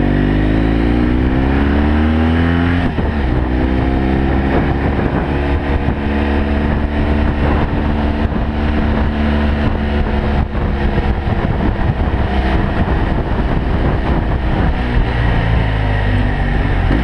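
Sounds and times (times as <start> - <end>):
motorcycle engine running: 0.0 - 17.0
wind rushing: 0.6 - 17.0.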